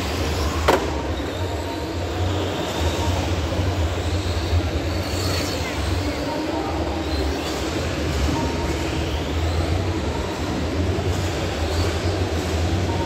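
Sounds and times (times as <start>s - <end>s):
exhibition hall rumble and hubbub: 0.0s - 13.0s.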